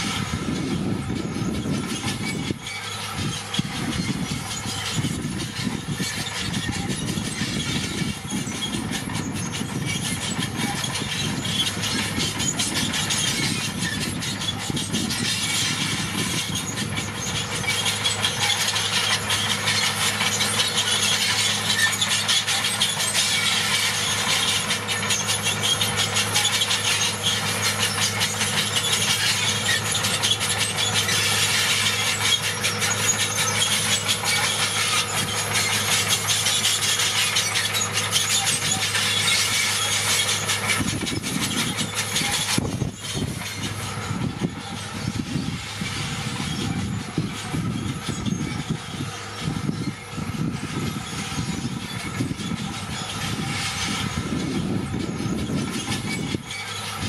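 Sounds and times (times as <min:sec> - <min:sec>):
diesel engine running: 0:00.0 - 0:57.0
steel tracks clattering: 0:00.0 - 0:57.0.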